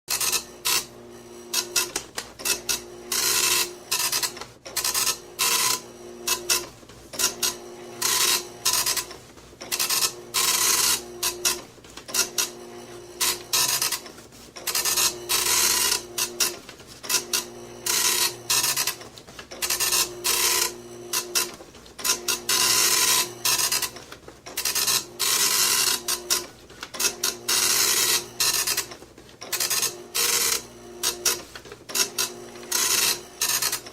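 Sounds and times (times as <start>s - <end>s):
printer motor whir: 0.1s - 33.9s
printer rasping bursts: 0.1s - 33.9s.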